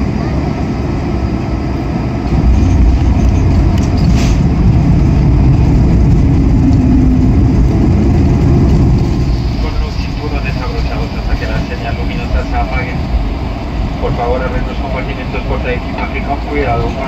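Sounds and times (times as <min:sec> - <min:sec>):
jet engine low rumble: 0:00.0 - 0:17.0.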